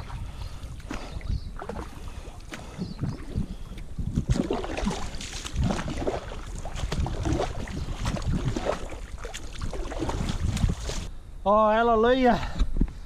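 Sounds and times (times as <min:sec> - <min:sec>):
paddle splashing in water: 0:00.0 - 0:11.1
wind buffeting microphone: 0:00.0 - 0:11.1.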